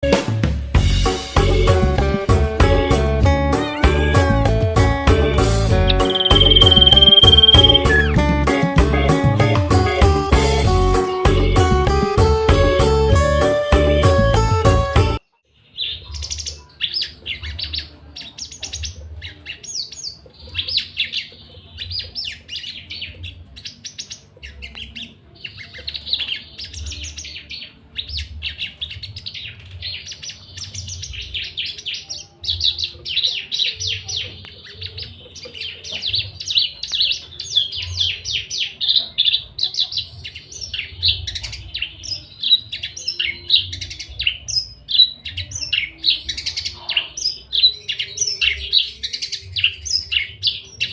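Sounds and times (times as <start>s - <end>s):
bird chirps and trills: 3.6s - 4.5s, 5.6s - 8.3s, 9.6s - 11.8s, 15.3s - 50.9s.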